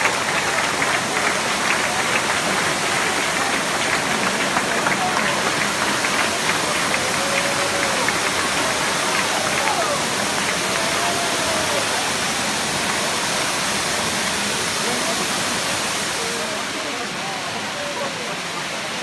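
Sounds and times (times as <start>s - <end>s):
spark fountains hissing and crackling: 0.0s - 17.2s
people's voices: 0.0s - 19.0s.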